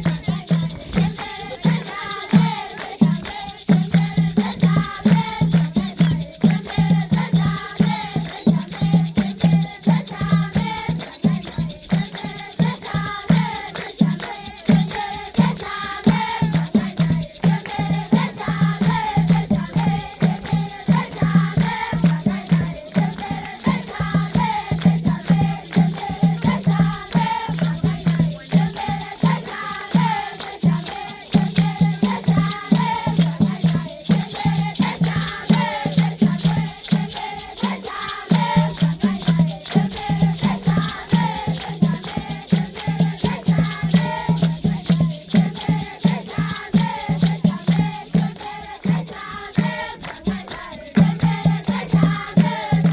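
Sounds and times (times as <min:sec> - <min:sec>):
children singing in chorus: 0:00.0 - 0:52.9
rattles shaken: 0:00.0 - 0:52.9.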